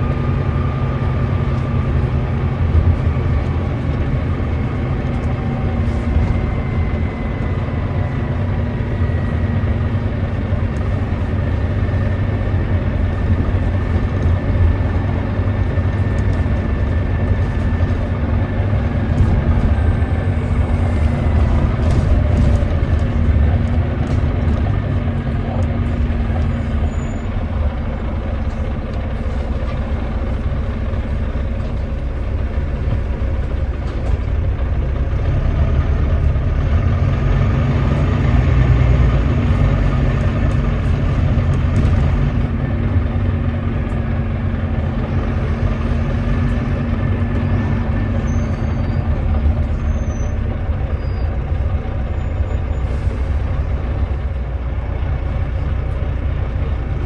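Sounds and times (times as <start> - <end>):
diesel bus engine rumbling: 0.0 - 57.0
faint whining engine tones: 0.0 - 57.0.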